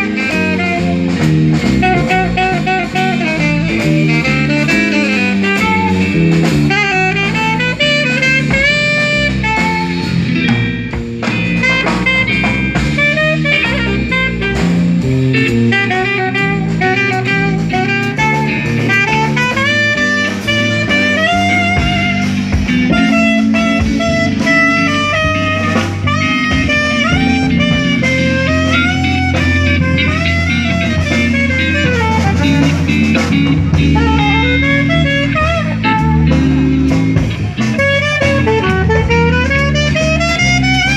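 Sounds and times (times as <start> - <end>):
horn melody: 0.0 - 40.9
live jazz band playing: 0.0 - 40.9.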